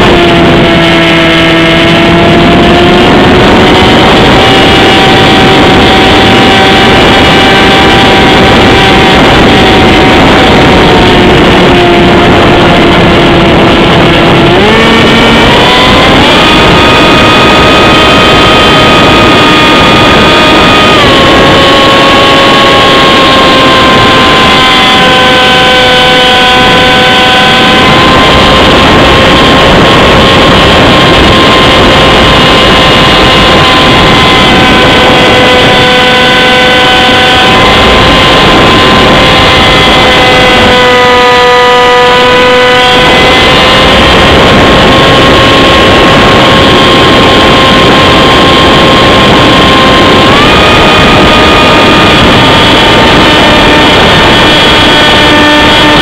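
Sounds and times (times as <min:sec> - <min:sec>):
electric motor and propeller whine: 0:00.0 - 0:56.0
wind rush on camera: 0:00.0 - 0:56.0.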